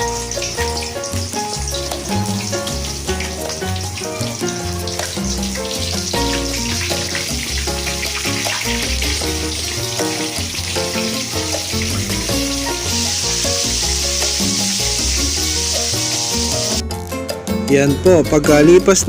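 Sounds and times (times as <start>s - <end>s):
chicken sizzling in hot oil: 0.0s - 16.8s
background music with bass: 0.0s - 19.0s.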